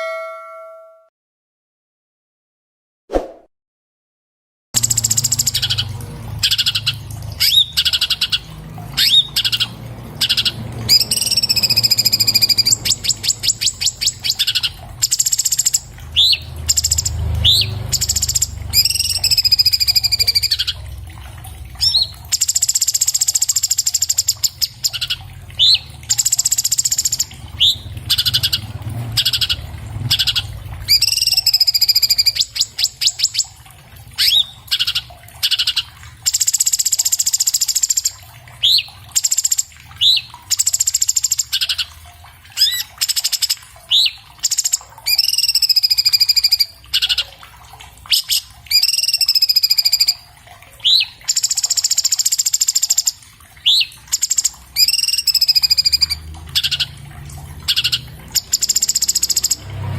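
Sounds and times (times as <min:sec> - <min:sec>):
bird singing: 0:00.0 - 0:01.0, 0:04.8 - 0:20.8, 0:21.8 - 0:33.5, 0:34.2 - 0:41.9, 0:42.6 - 0:47.2, 0:48.1 - 0:50.2, 0:50.8 - 0:57.0.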